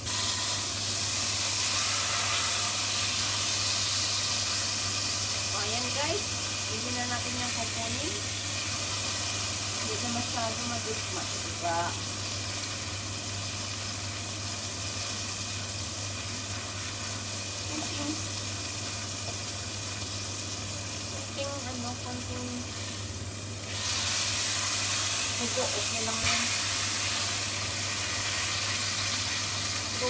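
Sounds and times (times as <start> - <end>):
steak sizzling in hot oil: 0.0 - 30.0.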